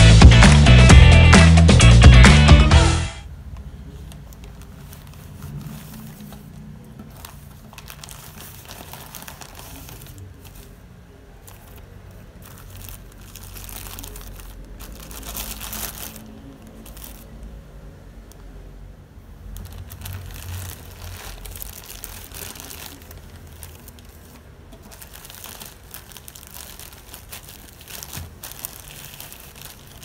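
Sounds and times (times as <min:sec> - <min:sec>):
packaging crinkling and rustling: 0:03.6 - 0:18.6, 0:19.3 - 0:30.0.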